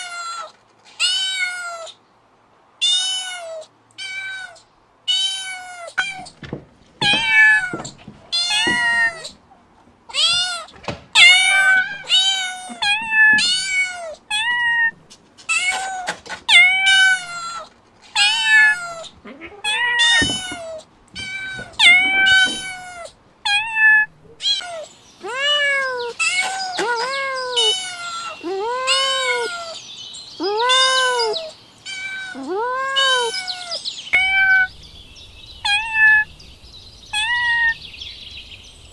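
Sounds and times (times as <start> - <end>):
kittens mewing: 2.8 - 29.8, 30.4 - 34.9, 35.6 - 36.4, 37.1 - 37.8.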